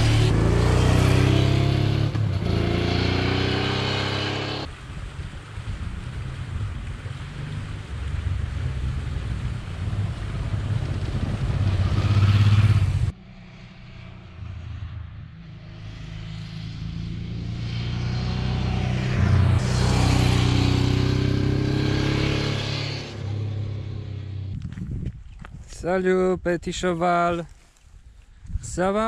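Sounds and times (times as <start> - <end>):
motorcycle engine on road: 0.0 - 25.4.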